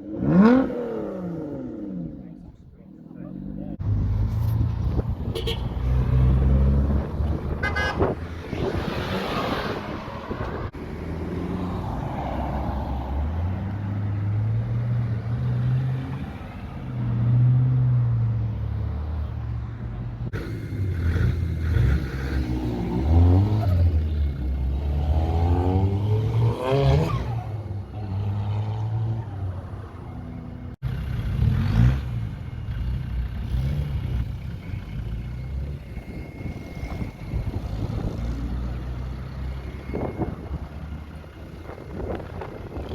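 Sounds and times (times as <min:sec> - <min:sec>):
cars driving off revving: 0:00.0 - 0:42.9.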